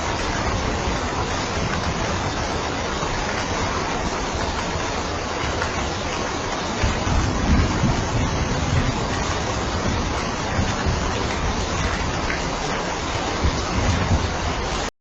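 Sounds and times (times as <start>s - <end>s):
heavy rain hiss: 0.0s - 14.9s.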